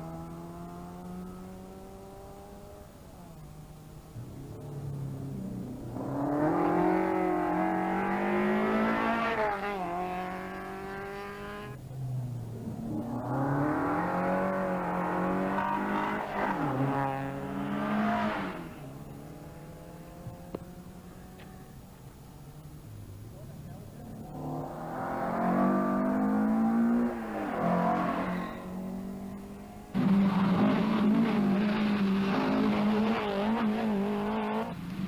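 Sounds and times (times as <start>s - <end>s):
rally car engine accelerating: 0.0s - 35.0s.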